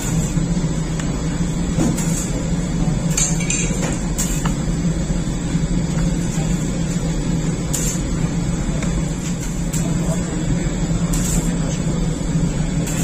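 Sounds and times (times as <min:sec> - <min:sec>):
oven humming: 0:00.0 - 0:13.0.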